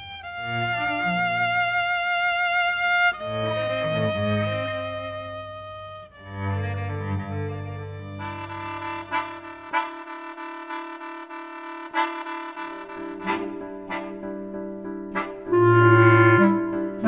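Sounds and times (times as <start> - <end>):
chamber music long held notes: 0.0 - 17.0.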